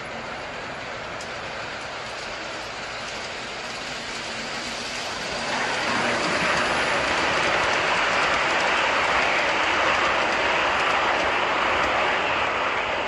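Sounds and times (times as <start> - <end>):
model train wheels rolling: 0.0 - 13.0.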